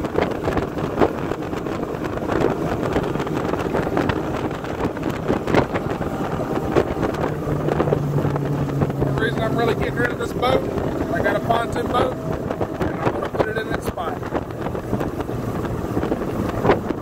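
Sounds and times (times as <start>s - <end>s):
boat engine hum: 0.0s - 17.0s
wind buffeting microphone: 0.0s - 17.0s.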